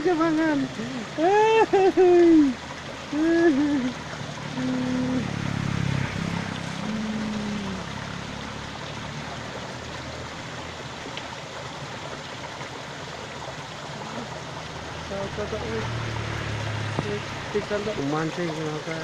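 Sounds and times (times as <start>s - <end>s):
small stream flowing: 0.0s - 19.0s.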